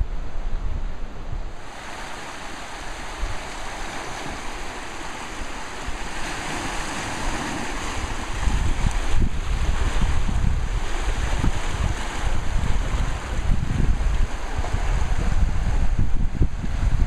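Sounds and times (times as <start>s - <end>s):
surf rushing through rocky channel: 0.0s - 17.0s
wind buffeting microphone: 0.0s - 17.0s.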